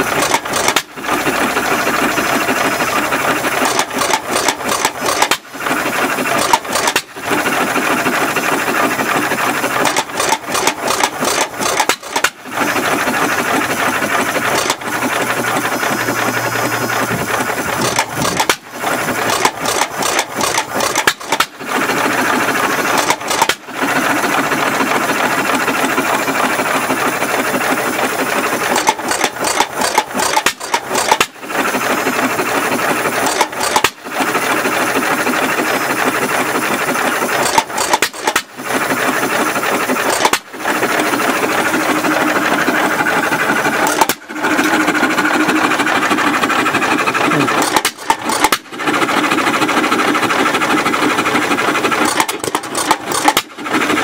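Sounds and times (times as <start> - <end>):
stationary engine clattering: 0.0 - 54.0.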